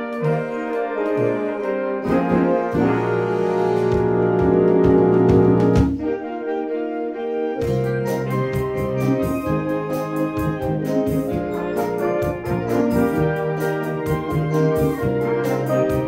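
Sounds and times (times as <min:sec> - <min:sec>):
percussion beat: 0:00.0 - 0:06.1, 0:07.6 - 0:16.0
woodwind chords: 0:00.0 - 0:16.0.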